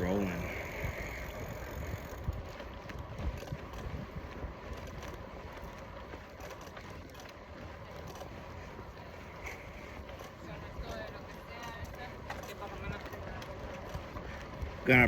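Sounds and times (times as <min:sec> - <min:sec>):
bicycle tyres coasting: 0:00.0 - 0:15.0
wind buffeting microphone: 0:00.0 - 0:15.0.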